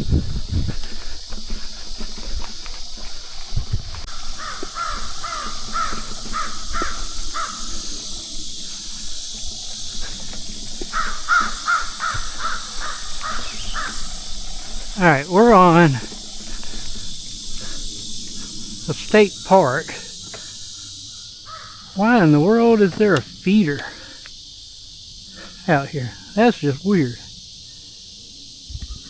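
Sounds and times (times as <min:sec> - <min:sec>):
bird calling: 0:00.0 - 0:29.0
steady hiss: 0:00.0 - 0:29.0.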